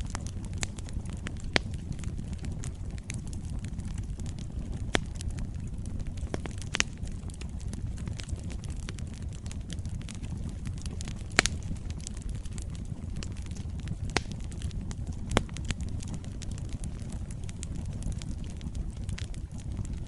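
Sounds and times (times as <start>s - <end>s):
fire crackling and popping: 0.0s - 20.0s
wood fire rumbling: 0.0s - 20.0s.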